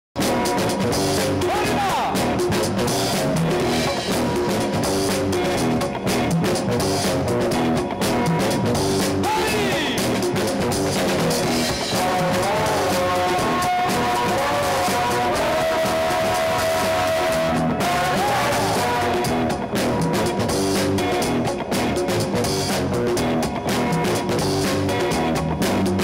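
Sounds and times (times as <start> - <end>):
loud music with drums: 0.2 - 26.0.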